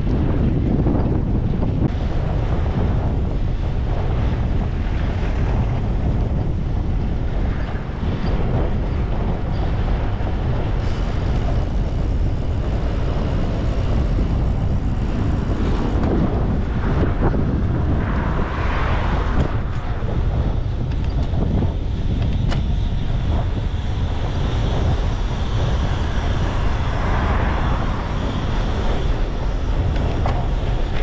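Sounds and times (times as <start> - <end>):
road and traffic noise: 0.0 - 31.0
wind rumble on microphone: 0.0 - 31.0.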